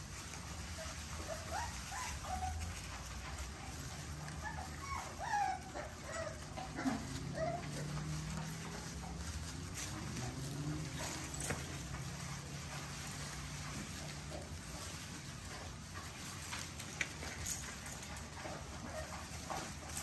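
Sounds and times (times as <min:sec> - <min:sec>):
puppies whining and yipping: 0:00.0 - 0:20.0.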